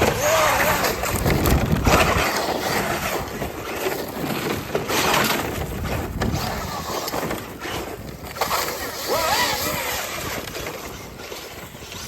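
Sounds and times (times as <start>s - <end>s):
toy truck crunching and rattling: 0.0s - 12.0s.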